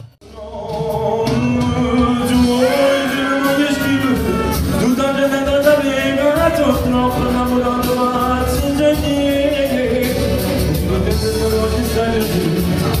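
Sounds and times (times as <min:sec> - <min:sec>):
amplified music with steady beat: 0:00.0 - 0:13.0
man singing into microphone: 0:00.2 - 0:13.0.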